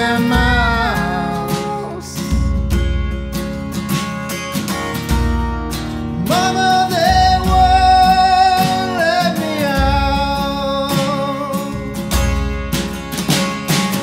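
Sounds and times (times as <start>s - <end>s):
acoustic guitar strumming: 0.0s - 14.0s
drum kit: 0.0s - 14.0s.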